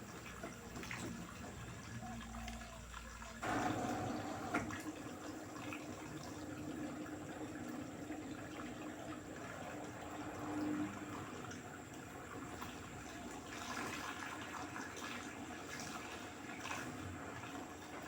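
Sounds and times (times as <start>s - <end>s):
washing machine low hum: 0.0s - 18.0s
water rushing through washing machine: 0.0s - 18.0s.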